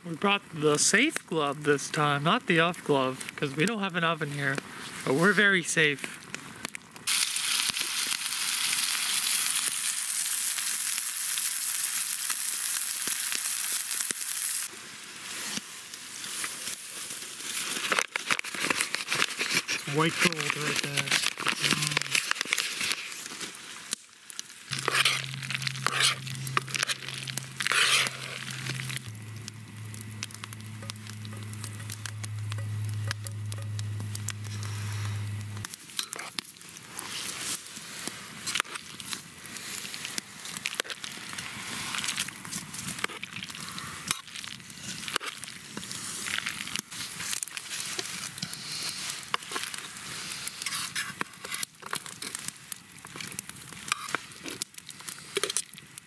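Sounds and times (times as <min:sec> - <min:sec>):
meat sizzling in a pan: 0:07.1 - 0:18.4, 0:19.1 - 0:56.0.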